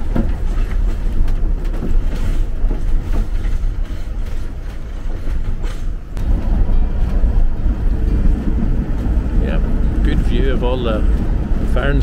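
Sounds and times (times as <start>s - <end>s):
low rumble of carriage wheels: 0.0s - 12.0s.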